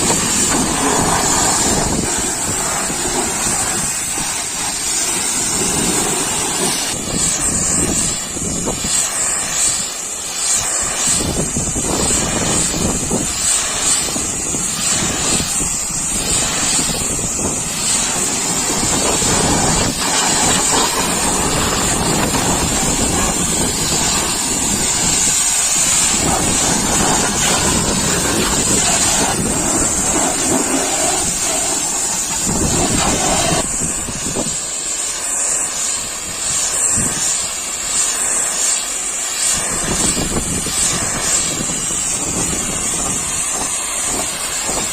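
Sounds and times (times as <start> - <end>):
pressure washer spraying water: 0.0 - 44.9.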